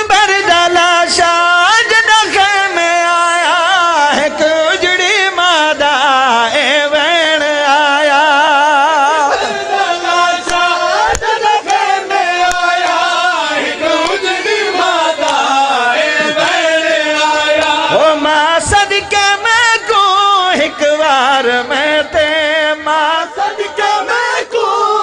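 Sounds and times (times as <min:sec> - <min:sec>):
man chanting over a microphone: 0:00.0 - 0:11.3, 0:11.9 - 0:25.0.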